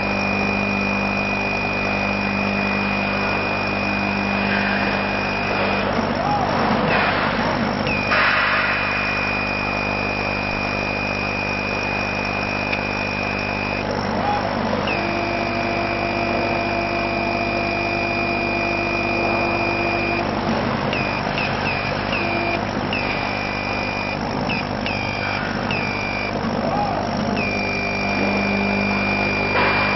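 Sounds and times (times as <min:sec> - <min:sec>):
laser cutter motors whining: 0:00.0 - 0:29.9
machine fans humming: 0:00.0 - 0:29.9.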